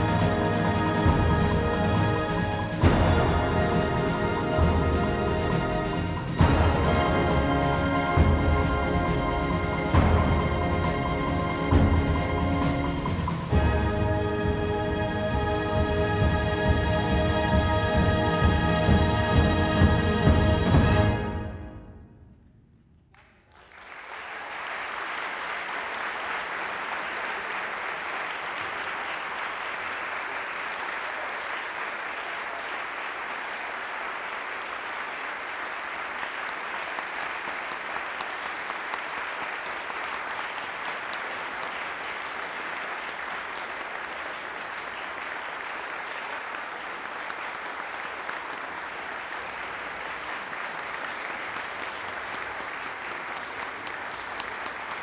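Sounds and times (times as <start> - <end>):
concert audience applauding: 0.0 - 21.2, 23.1 - 55.0.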